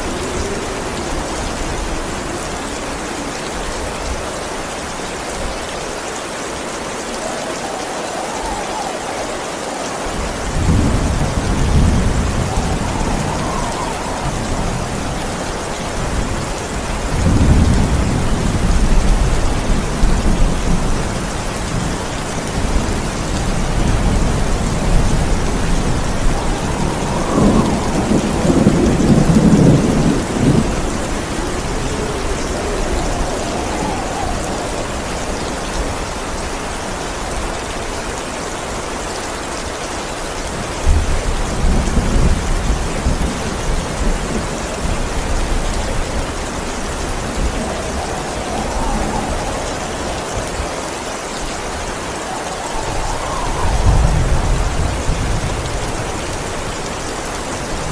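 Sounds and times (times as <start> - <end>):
heavy rain: 0.0 - 57.9
thunder rumbling: 7.0 - 37.6, 40.5 - 57.9.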